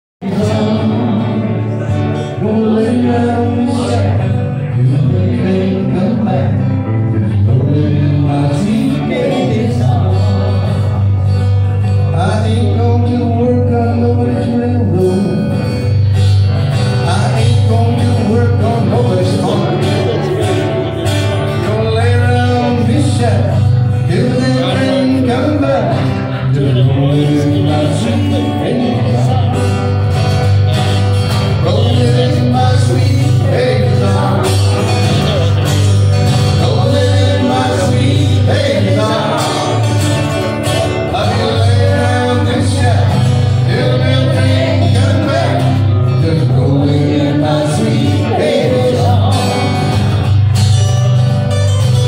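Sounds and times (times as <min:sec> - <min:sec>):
person singing: 0:00.2 - 0:50.6
strummed acoustic guitars: 0:00.2 - 0:52.0.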